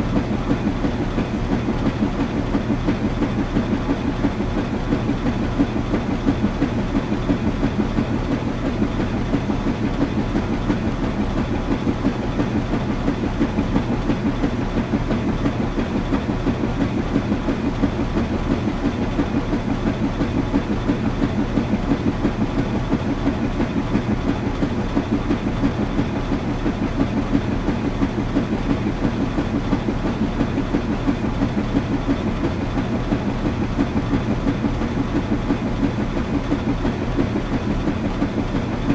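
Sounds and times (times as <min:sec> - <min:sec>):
washing machine drum churning: 0:00.0 - 0:38.9.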